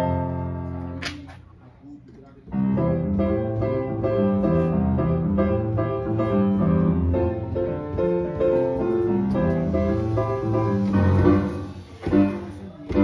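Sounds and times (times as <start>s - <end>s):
piano music: 0.0s - 1.2s, 2.5s - 13.0s.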